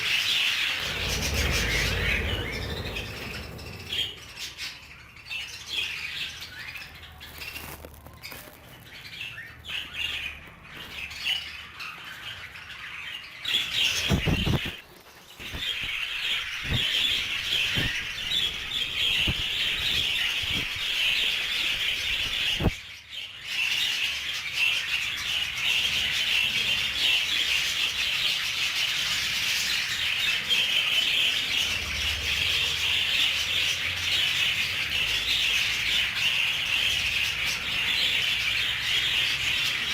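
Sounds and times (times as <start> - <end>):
budgerigars chattering and warbling: 0.0 - 7.8, 8.7 - 14.8, 15.4 - 39.9.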